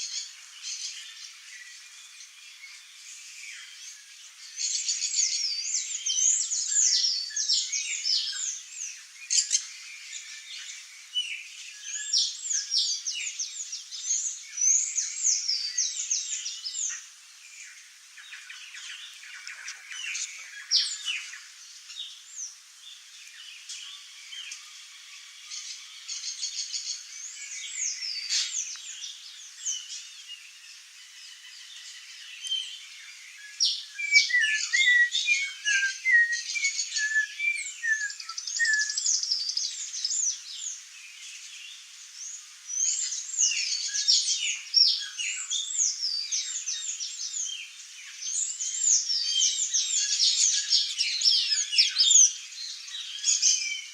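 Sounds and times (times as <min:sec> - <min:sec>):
birds chirping and trilling: 0:00.0 - 0:53.9.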